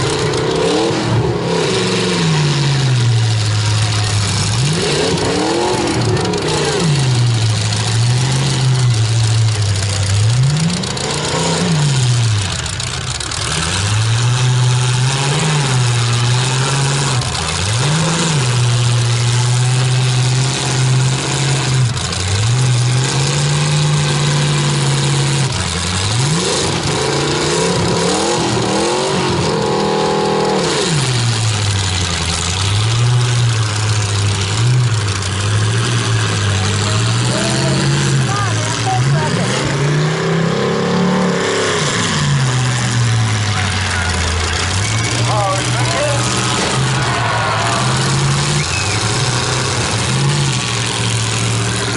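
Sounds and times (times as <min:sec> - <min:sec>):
truck engines revving: 0:00.0 - 0:51.9.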